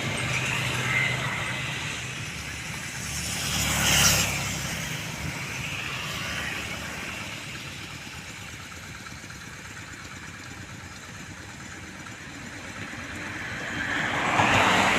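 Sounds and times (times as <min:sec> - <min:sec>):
tractor engine idling: 0:00.0 - 0:14.9.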